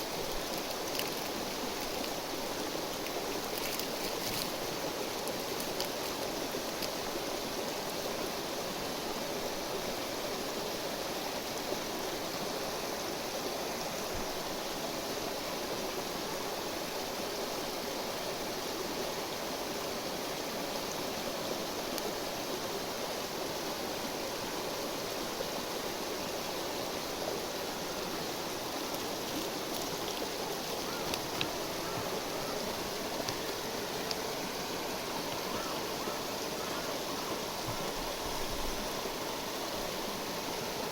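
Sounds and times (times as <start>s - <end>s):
river rushing: 0.0s - 40.9s.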